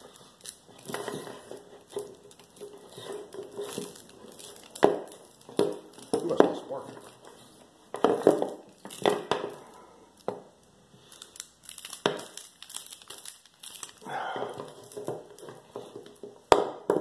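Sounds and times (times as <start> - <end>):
cable rustling and crinkling: 0.0 - 17.0.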